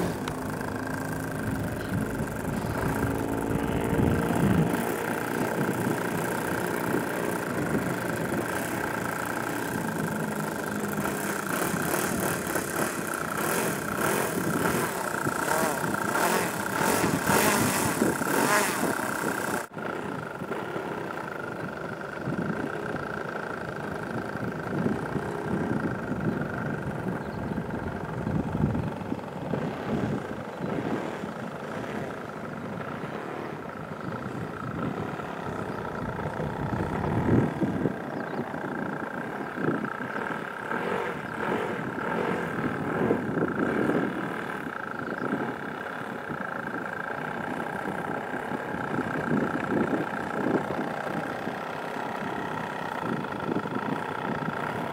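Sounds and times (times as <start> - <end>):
engine whining and rumbling: 0.0 - 54.9.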